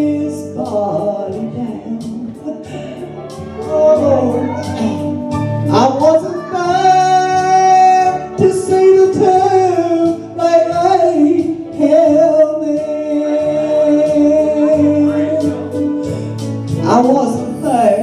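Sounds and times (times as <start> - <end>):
gospel singing: 0.0 - 18.0
instrumental accompaniment: 0.0 - 18.0.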